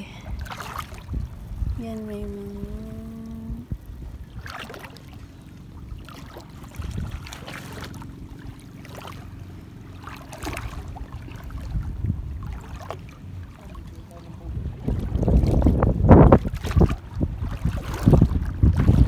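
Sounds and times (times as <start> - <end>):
low steady rumble: 0.0 - 19.0
seawater lapping and splashing: 0.0 - 19.0.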